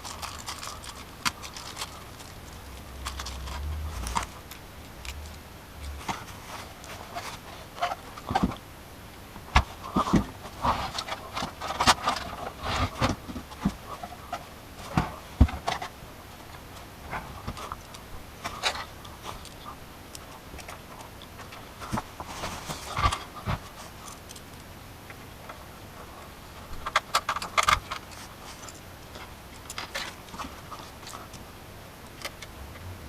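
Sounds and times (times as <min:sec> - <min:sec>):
hardware and packaging handled: 0:00.0 - 0:08.6, 0:09.4 - 0:32.5.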